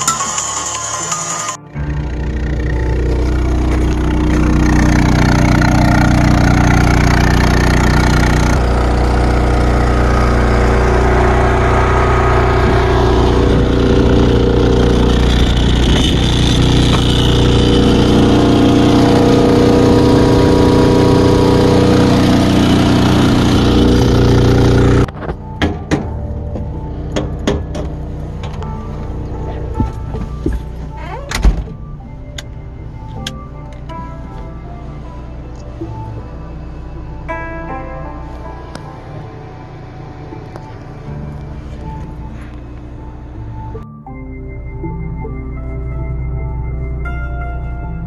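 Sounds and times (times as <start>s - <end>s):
generator engine running: 0.0s - 43.8s.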